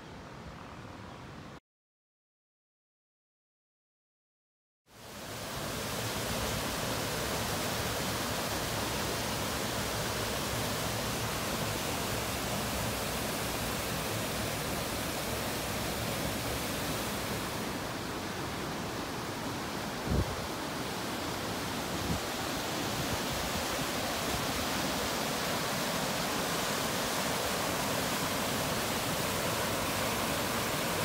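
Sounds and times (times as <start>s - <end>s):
river water rushing over dam spillway: 4.9s - 31.0s.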